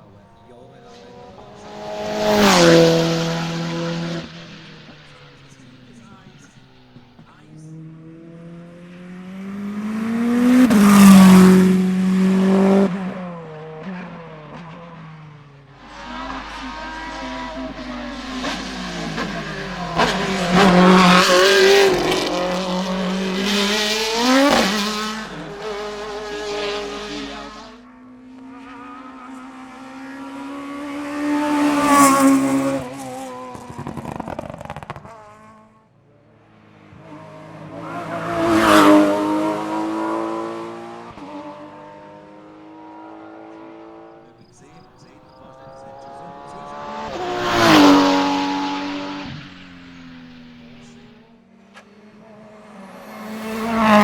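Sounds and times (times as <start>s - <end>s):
racing cars accelerating past: 0.0s - 54.0s.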